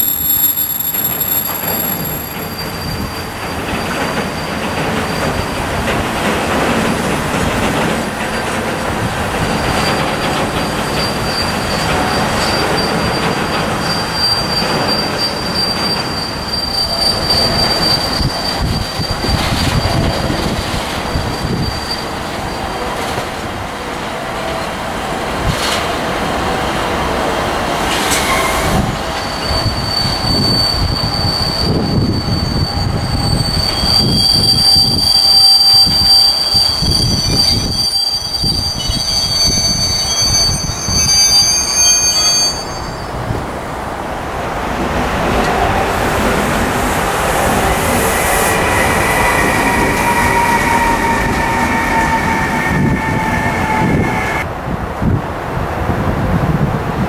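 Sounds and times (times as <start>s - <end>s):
high wheel squeal: 0.0s - 7.0s, 8.1s - 23.2s, 27.9s - 43.4s, 45.4s - 54.5s
steel wheels rumbling on rails: 0.0s - 57.0s.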